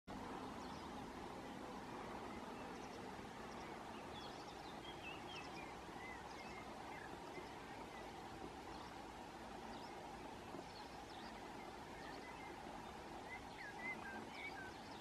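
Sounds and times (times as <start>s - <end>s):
outdoor background hiss: 0.1s - 15.0s
thin bird calls: 0.4s - 15.0s.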